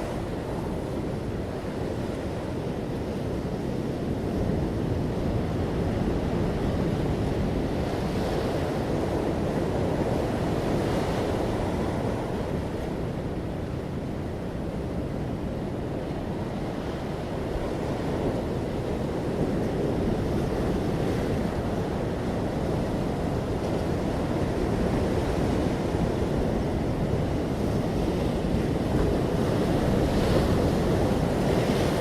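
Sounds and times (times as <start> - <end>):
ocean waves breaking on shore: 0.0 - 32.0.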